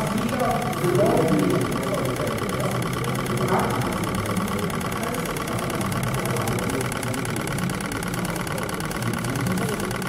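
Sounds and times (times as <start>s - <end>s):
model engine mechanical ticking: 0.0s - 10.0s
steady low hum: 0.0s - 10.0s.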